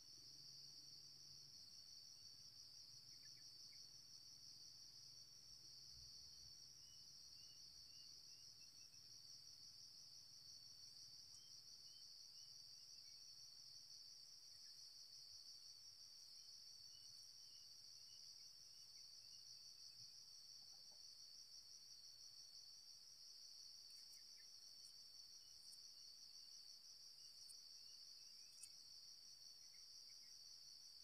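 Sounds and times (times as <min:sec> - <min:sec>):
insects chirring: 0:01.3 - 0:31.0.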